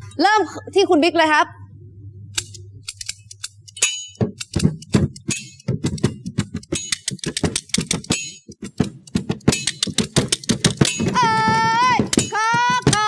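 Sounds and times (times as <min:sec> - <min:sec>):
props clicking and knocking: 0:02.4 - 0:13.0.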